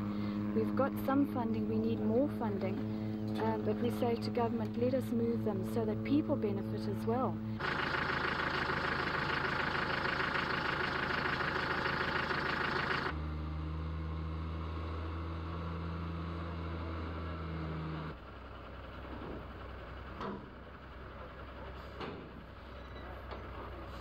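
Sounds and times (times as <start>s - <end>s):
motor vehicle engines running: 0.0s - 24.0s.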